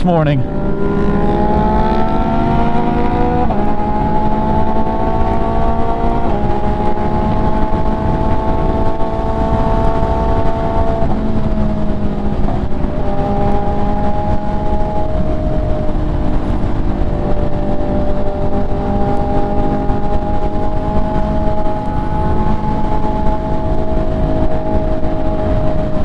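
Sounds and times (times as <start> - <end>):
heavy wind noise: 0.0 - 26.0
sport bike engine revving: 0.1 - 26.0.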